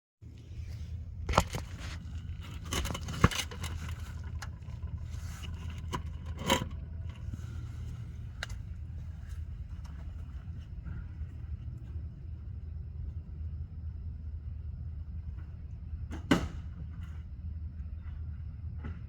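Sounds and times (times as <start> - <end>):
steady low hum: 0.2 - 19.0.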